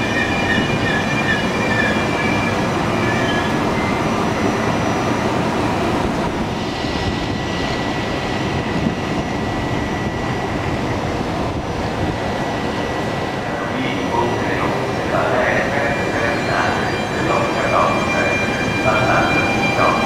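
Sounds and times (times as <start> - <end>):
electric locomotive rumbling hum: 0.0 - 20.0.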